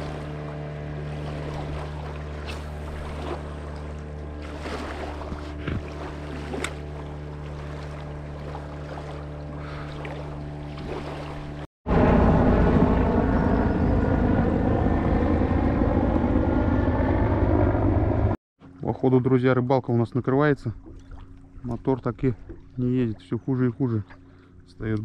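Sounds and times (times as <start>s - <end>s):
outboard motor running: 0.0s - 19.3s, 20.0s - 25.0s
water noise: 0.0s - 25.0s
wind: 0.0s - 25.0s.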